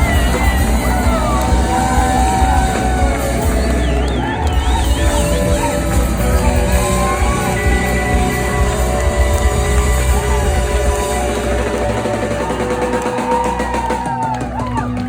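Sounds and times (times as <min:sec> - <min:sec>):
bass: 0:00.0 - 0:15.0
bending lead guitar lines: 0:00.0 - 0:15.0
drum kit: 0:00.0 - 0:15.0
live band playing loudly: 0:00.0 - 0:15.0.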